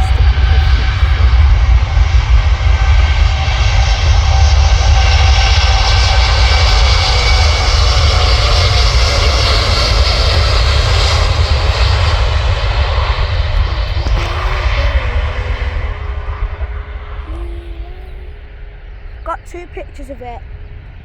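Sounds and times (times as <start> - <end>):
jet engines at take-off: 0.0 - 17.3.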